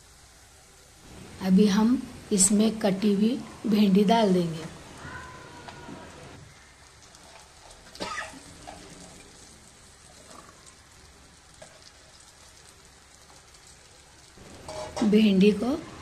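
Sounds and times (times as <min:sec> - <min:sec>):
vegetables frying in oil: 0:00.0 - 0:16.0.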